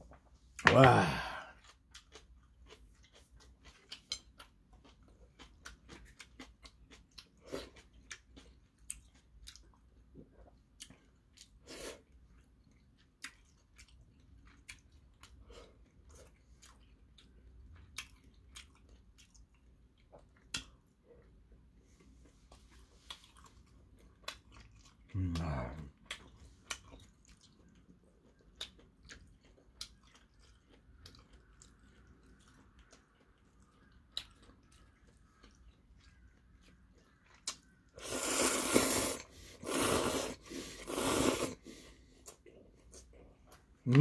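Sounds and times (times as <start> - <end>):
man chewing and smacking: 1.3 - 44.0.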